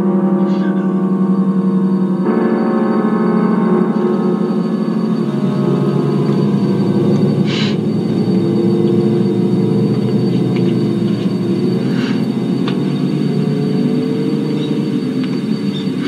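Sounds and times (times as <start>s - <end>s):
ominous droning music: 0.0s - 16.0s.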